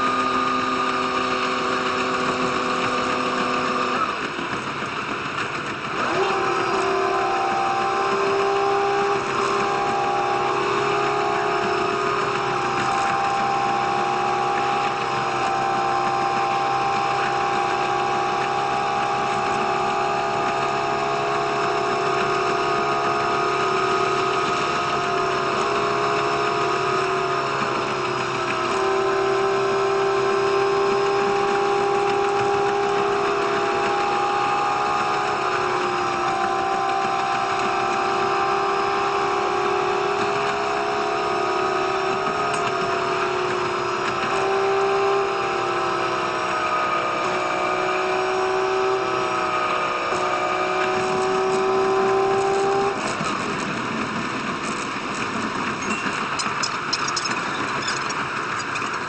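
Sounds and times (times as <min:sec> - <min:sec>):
high machine whine: 0:00.0 - 0:59.0.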